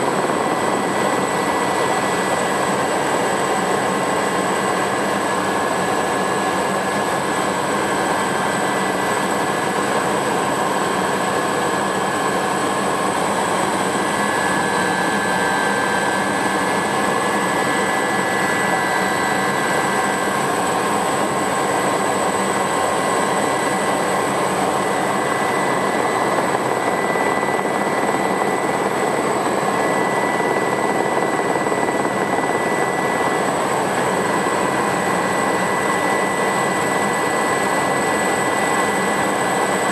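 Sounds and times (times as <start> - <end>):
rotor and airflow rush: 0.0 - 39.8
turbine engine whine: 0.0 - 39.9.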